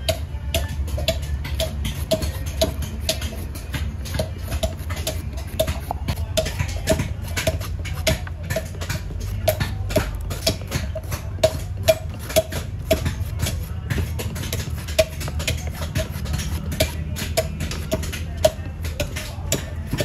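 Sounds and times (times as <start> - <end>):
knife scraping coconut: 0.0 - 20.0.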